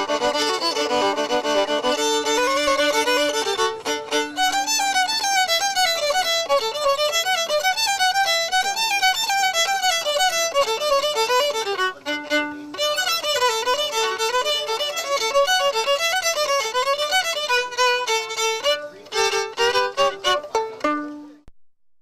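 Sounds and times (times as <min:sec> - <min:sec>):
solo violin melody: 0:00.0 - 0:21.5.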